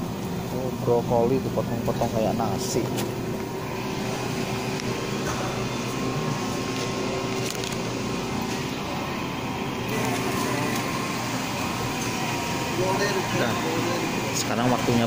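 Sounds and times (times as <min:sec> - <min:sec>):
refrigerated cases humming: 0:00.0 - 0:15.0.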